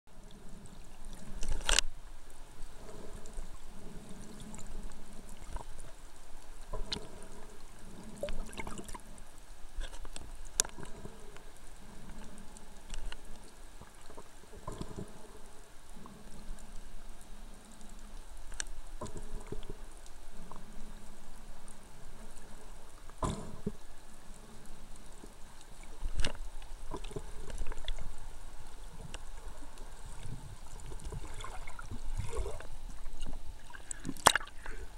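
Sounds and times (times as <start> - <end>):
underwater sloshing and gurgling: 0.1 - 34.9.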